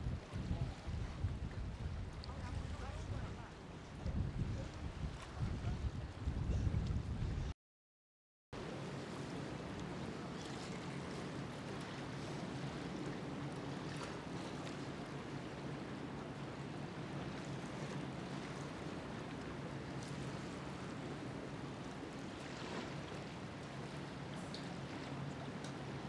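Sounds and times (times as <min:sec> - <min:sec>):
water lapping: 0:00.0 - 0:06.7, 0:08.6 - 0:26.0
wind: 0:00.0 - 0:07.6, 0:08.6 - 0:26.0.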